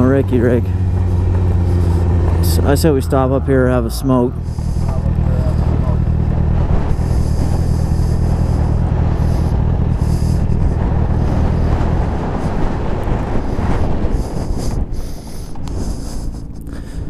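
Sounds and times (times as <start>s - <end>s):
motorcycle engine running: 0.0s - 17.0s
wind rush over microphone: 0.0s - 17.0s.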